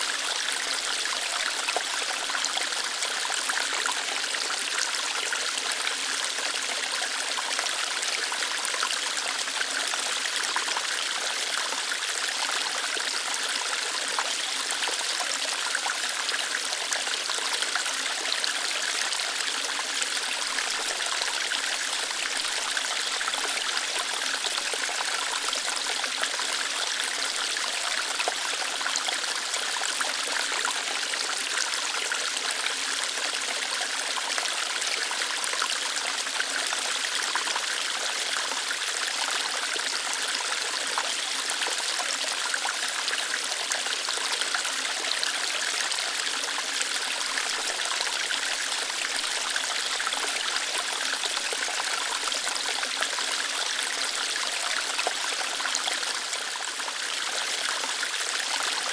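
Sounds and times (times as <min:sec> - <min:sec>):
water flowing over rocks: 0:00.0 - 0:58.9.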